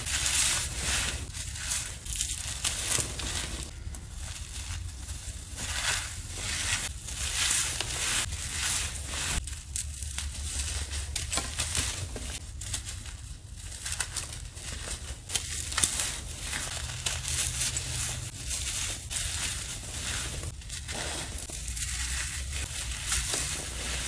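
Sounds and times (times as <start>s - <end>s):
powdery block crunching: 0.0s - 24.0s.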